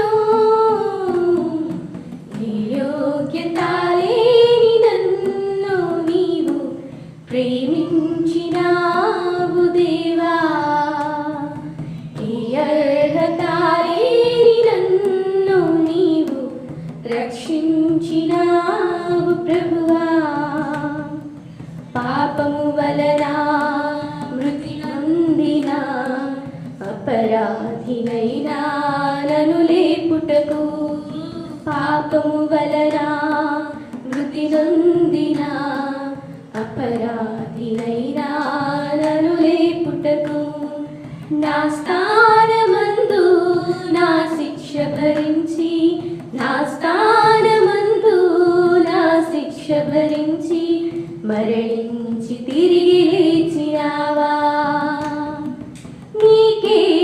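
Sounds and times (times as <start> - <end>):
women singing together: 0.0 - 57.0.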